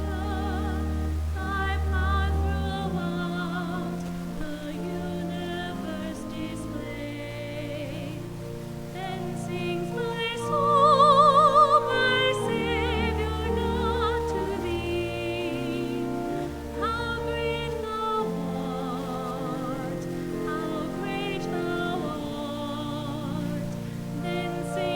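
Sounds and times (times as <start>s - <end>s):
classical solo singing: 0.0s - 24.9s
sustained held chords: 0.0s - 24.9s.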